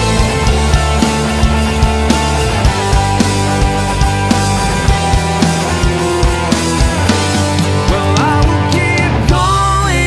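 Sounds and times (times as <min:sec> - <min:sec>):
live drum kit: 0:00.0 - 0:10.0
rock music: 0:00.0 - 0:10.0.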